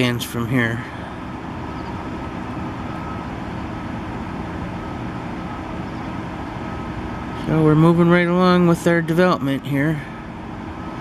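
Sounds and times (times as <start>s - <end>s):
faint steady hum: 0.0s - 11.0s
traffic rumble: 0.0s - 11.0s.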